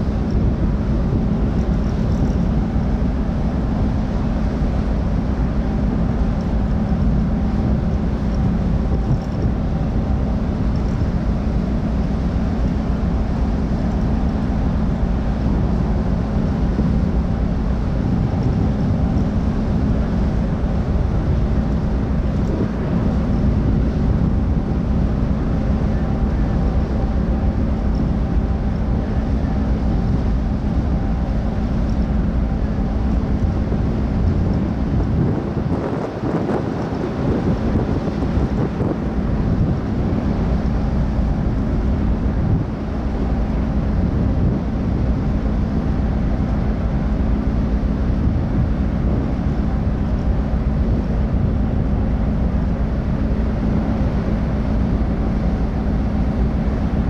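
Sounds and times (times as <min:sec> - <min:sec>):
ship engines droning: 0:00.0 - 0:57.0
wind on microphone: 0:00.0 - 0:57.0.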